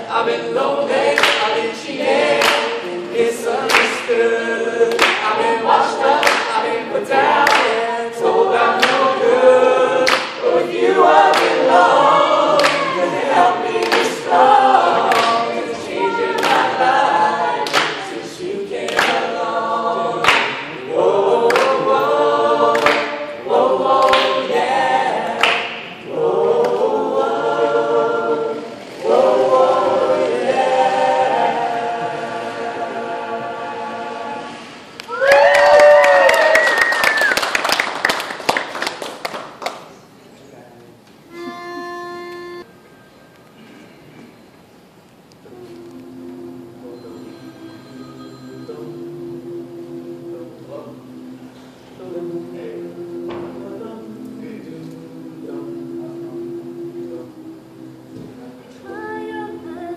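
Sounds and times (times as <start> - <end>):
a cappella group singing in harmony: 0.0 - 35.1, 45.4 - 59.9.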